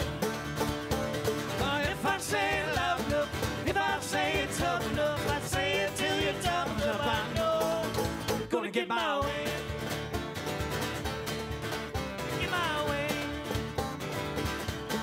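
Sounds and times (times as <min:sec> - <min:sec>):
acoustic guitar: 0:00.0 - 0:15.0
banjo: 0:00.0 - 0:15.0
bass guitar: 0:00.0 - 0:15.0
cajon beat: 0:00.0 - 0:15.0.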